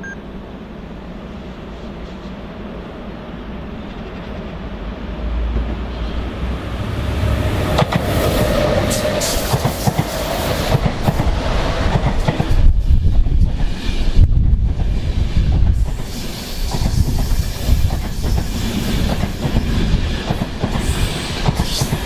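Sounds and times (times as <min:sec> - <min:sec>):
electric train passing: 0:00.1 - 0:22.0.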